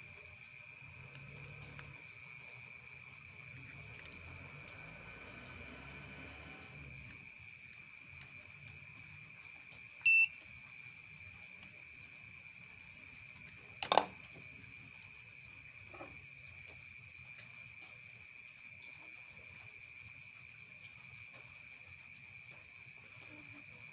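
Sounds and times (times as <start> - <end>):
insect chirr: 0.0 - 23.9.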